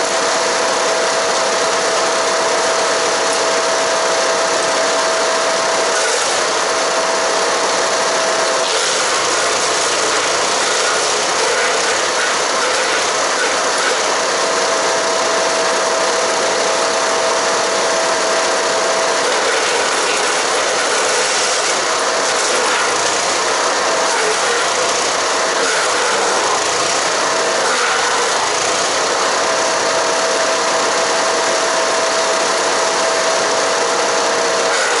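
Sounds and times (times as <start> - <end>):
wood chipper chipping branches: 0.0 - 35.0.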